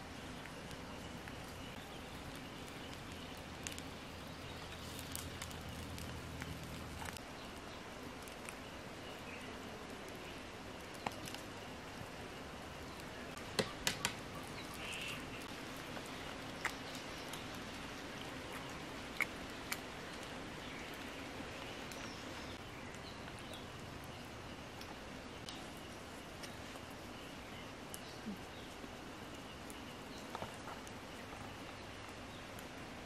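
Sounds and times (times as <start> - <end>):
faint hiss: 0.0 - 33.0
wood fire crackling: 0.0 - 33.0.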